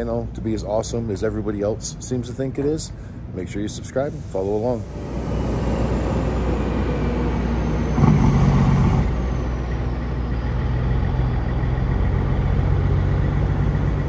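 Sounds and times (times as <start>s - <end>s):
diesel truck engine rumble: 0.0s - 14.0s.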